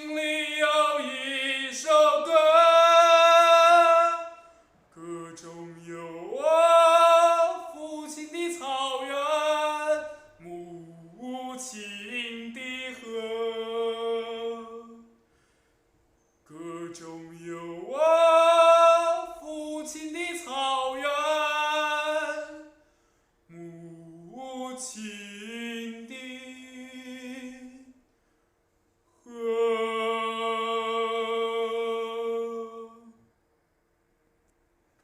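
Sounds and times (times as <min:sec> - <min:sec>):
man singing unaccompanied: 0:00.0 - 0:15.2, 0:16.4 - 0:22.8, 0:23.5 - 0:28.0, 0:29.2 - 0:33.3.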